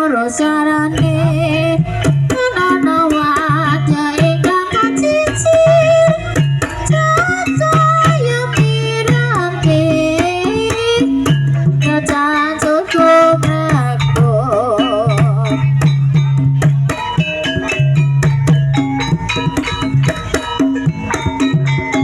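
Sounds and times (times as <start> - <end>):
wavering vocal melody: 0.0 - 22.0.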